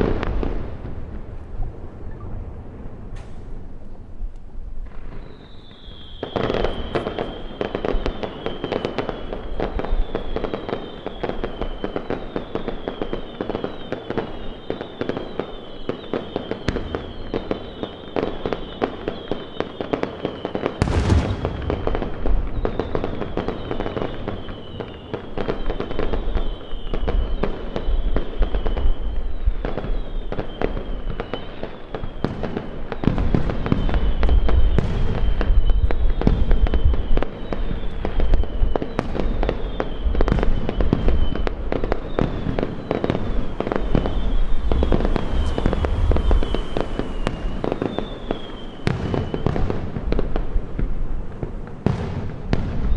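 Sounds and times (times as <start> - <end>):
fireworks bangs: 0.0 - 52.9
fireworks crackling pops: 0.0 - 52.9
high-pitched falling whistles: 5.0 - 32.3, 32.9 - 49.8.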